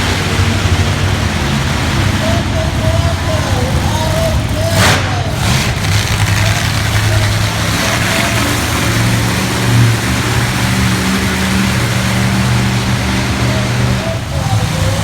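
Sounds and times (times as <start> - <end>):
monster truck engine roaring: 0.0 - 15.0.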